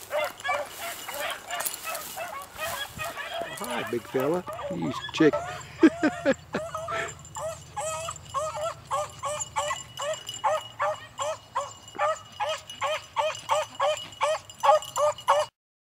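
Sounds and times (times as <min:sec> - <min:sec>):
hounds baying in high yips: 0:00.0 - 0:15.5.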